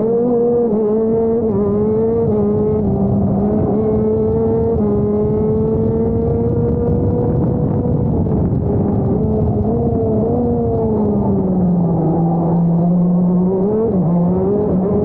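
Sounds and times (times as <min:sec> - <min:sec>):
kart engine running hard: 0:00.0 - 0:15.0.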